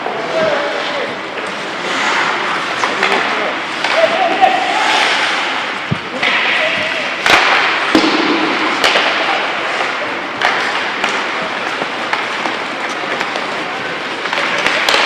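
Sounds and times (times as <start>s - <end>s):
skates scraping on ice: 0.0s - 15.0s
stick hitting puck: 2.2s - 15.0s.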